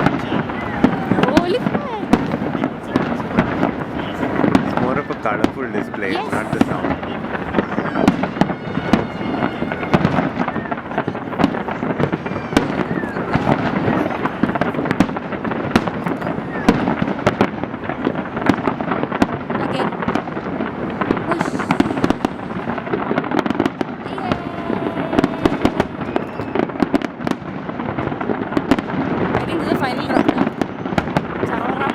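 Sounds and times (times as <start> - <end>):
crowd voices: 0.0 - 31.9
fireworks bangs and crackling: 0.0 - 31.9.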